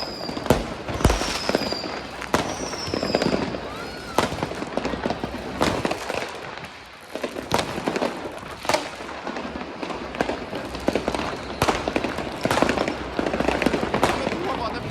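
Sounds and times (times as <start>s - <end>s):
firecrackers crackling: 0.0s - 14.9s
fireworks sharp bangs: 0.0s - 14.9s.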